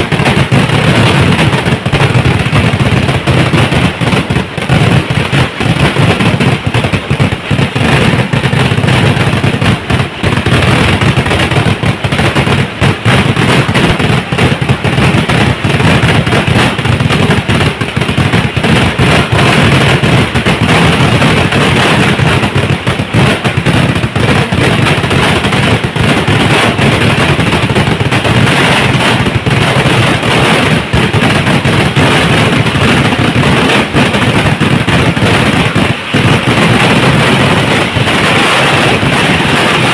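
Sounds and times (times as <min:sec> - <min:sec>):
fireworks rapid-fire bangs: 0:00.0 - 0:39.9.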